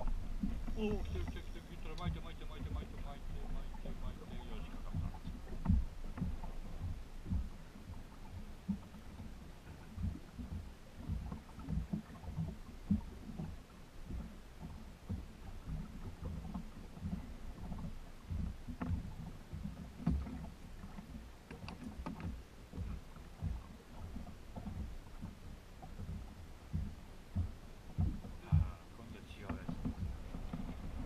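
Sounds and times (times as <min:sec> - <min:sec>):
faint clicks: 0:00.0 - 0:31.0
water slapping boat hull: 0:00.0 - 0:31.0.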